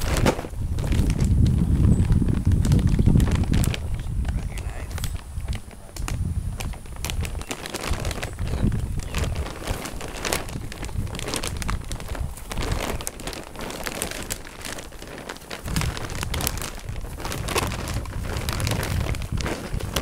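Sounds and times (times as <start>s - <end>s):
netting rustling and crinkling: 0.0s - 20.0s.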